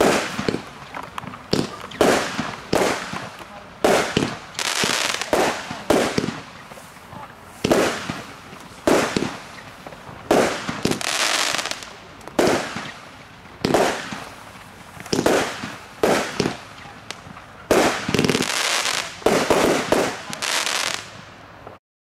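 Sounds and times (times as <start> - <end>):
firework bangs: 0.0 - 21.3
firework sizzle: 0.0 - 21.8.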